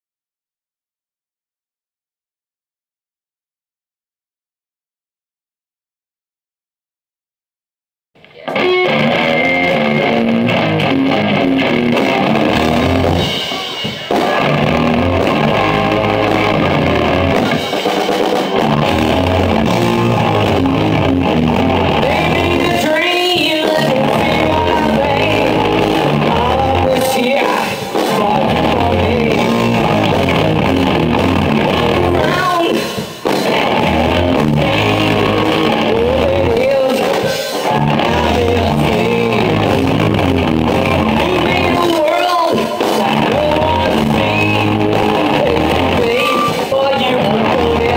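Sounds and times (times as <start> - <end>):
drum kit: 8.2 - 47.9
electric guitars: 8.2 - 47.9.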